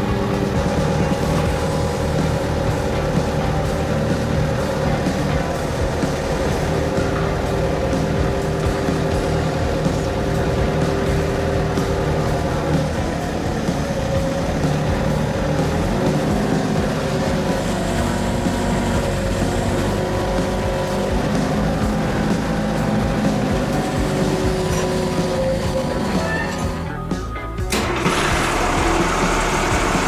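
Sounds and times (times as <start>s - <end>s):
snow groomer engine running: 0.0s - 30.0s.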